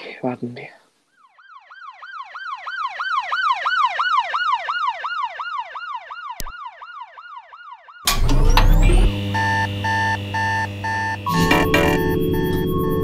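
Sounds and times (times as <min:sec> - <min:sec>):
emergency vehicle siren: 0:01.3 - 0:13.0.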